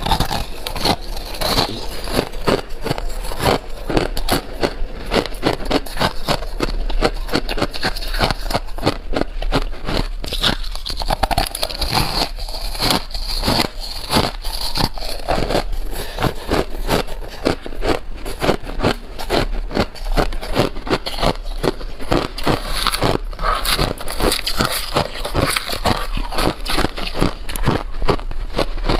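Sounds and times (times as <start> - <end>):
ice crunching between teeth: 0.0 - 28.9.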